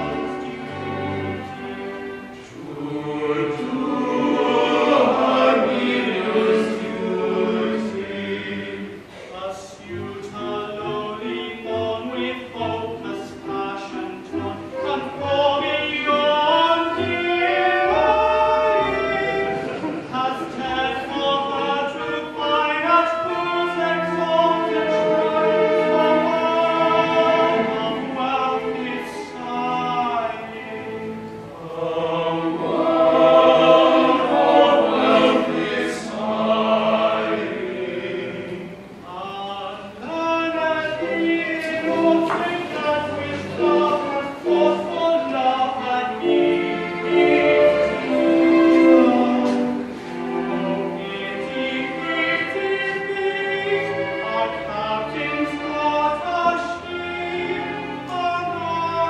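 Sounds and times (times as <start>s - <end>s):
male chorus singing: 0.0s - 59.0s.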